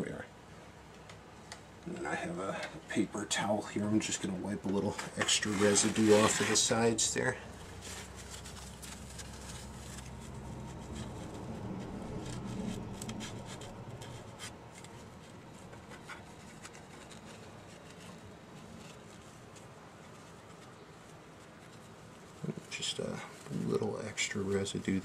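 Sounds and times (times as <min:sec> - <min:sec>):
faint rustling and scratchy ticks: 0:00.9 - 0:25.0
paper towel rubbing: 0:04.0 - 0:25.0.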